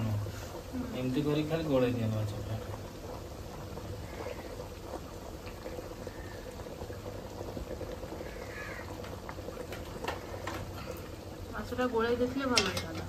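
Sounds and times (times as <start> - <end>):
curry bubbling in pot: 0.0 - 13.0.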